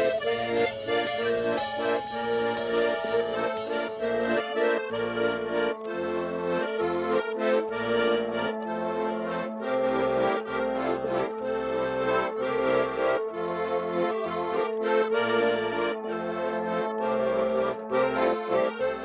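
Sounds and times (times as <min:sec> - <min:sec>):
accordion playing: 0:00.0 - 0:19.0.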